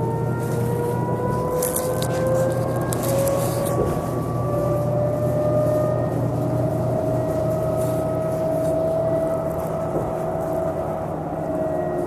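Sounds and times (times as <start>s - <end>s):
bus engine hum: 0.0s - 12.0s
electric drive whine: 0.0s - 12.0s.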